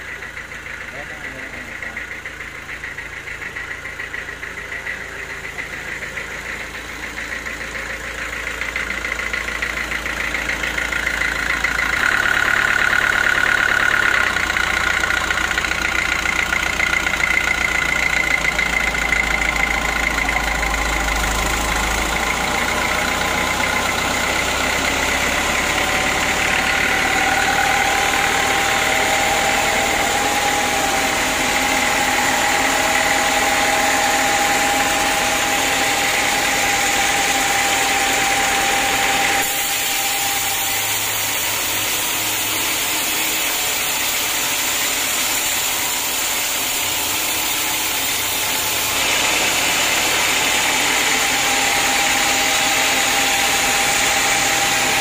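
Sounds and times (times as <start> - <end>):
sawmill machine drone: 0.0 - 55.0
high blade whine: 9.8 - 55.0.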